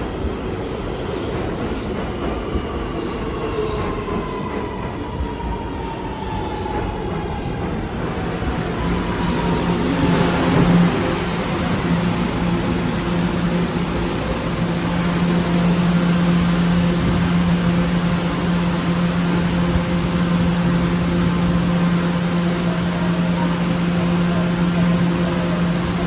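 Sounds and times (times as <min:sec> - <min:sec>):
subway train electrical hum: 0:00.0 - 0:26.0.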